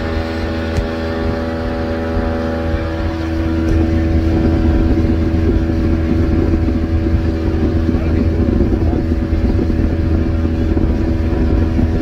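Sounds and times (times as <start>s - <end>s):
small boat engine running: 0.0s - 12.0s
wind and water rushing: 0.0s - 12.0s.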